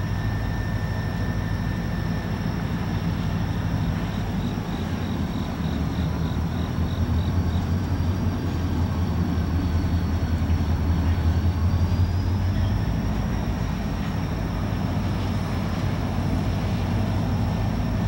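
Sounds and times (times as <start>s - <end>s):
diesel locomotive engines droning: 0.0s - 18.0s.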